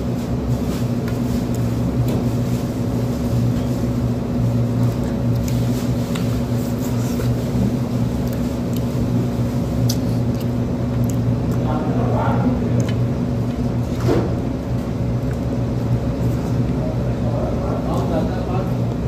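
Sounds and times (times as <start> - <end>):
low machine hum: 0.0 - 19.0
person eating with hands: 0.3 - 16.8.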